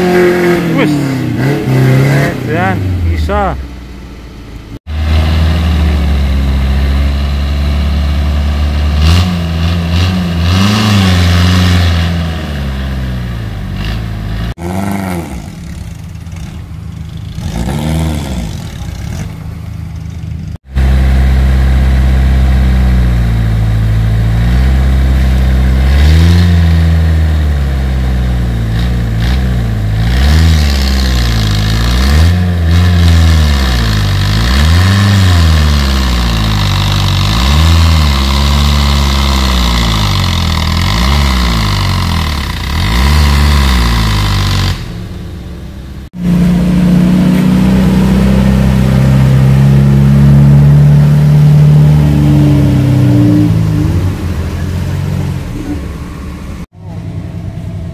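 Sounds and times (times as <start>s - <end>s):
engine revving: 0.0s - 57.9s.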